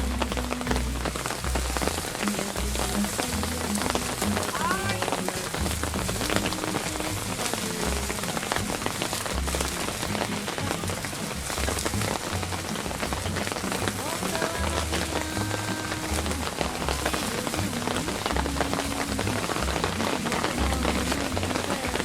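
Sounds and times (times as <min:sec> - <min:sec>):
rain pattering: 0:00.0 - 0:22.0
stepping bass line: 0:00.0 - 0:22.0.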